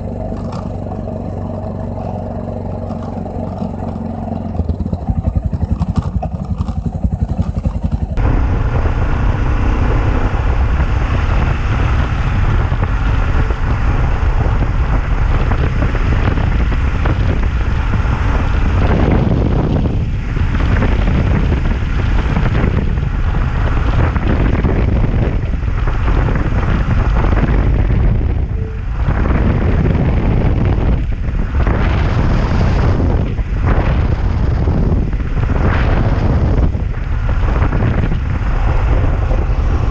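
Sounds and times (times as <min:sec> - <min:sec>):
motorcycle engine running: 0:00.0 - 0:39.9
road noise: 0:00.0 - 0:39.9
wind buffeting microphone: 0:00.0 - 0:39.9.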